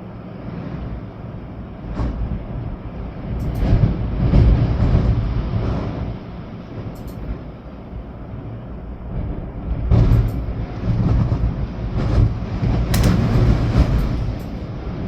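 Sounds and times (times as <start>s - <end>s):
rain: 0.0s - 15.0s
storm wind gusting through trees: 0.0s - 15.0s.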